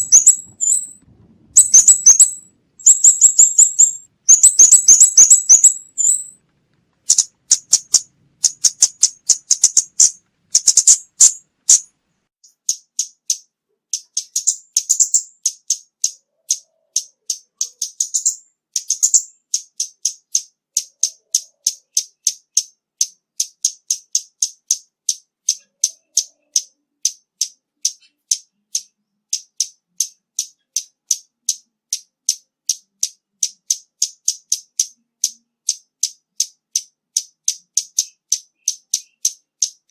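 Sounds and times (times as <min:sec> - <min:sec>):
bird ticking calls: 0:00.0 - 0:01.0, 0:01.6 - 0:06.4, 0:07.0 - 0:39.9.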